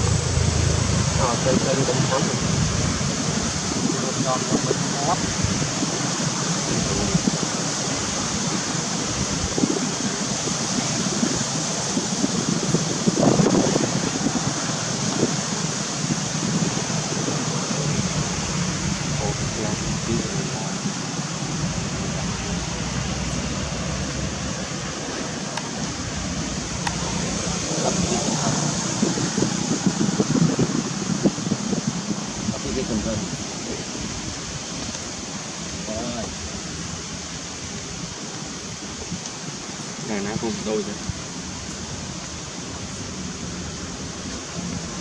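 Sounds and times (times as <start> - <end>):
steady rushing noise: 0.0 - 45.0.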